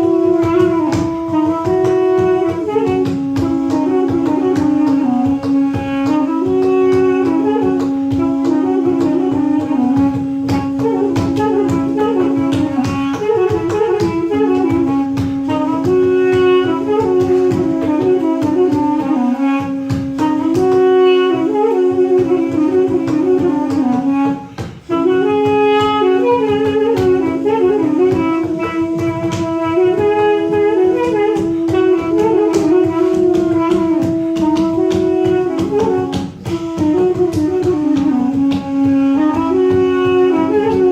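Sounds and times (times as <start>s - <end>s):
double-reed wind instruments melody: 0.0s - 40.9s
held drone note: 0.0s - 40.9s.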